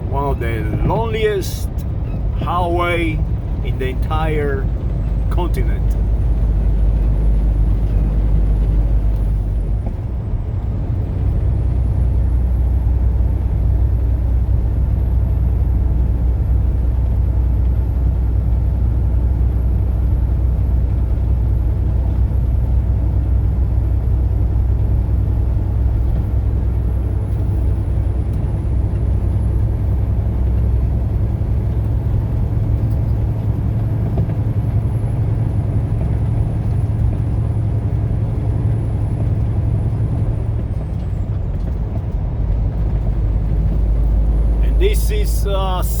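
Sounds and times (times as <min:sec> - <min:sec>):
vehicle engine and road noise: 0:00.0 - 0:46.0.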